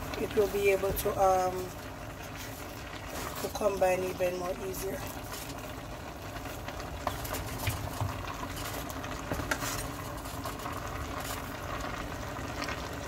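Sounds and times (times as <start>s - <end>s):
vegetables bubbling and hissing in pan: 0.0s - 13.0s.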